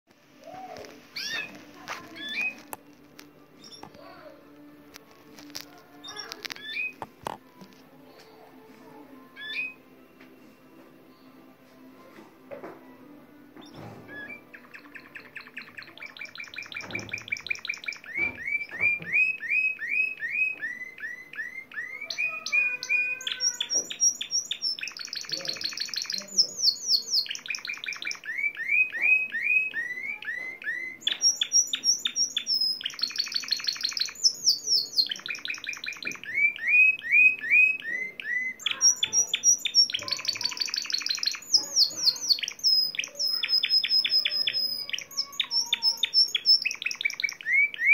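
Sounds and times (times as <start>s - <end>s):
canary singing: 0.3s - 11.6s, 13.2s - 47.9s.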